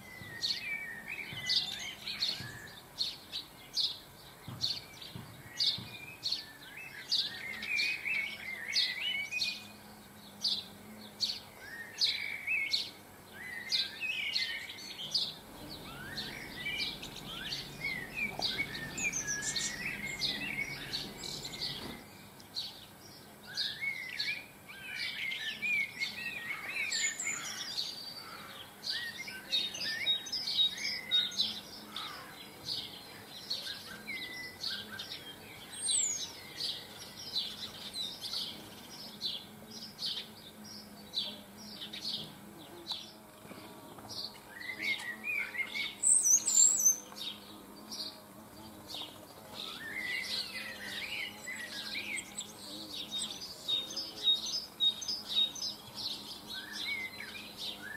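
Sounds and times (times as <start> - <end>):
small birds chirping and twittering: 0.0 - 57.9.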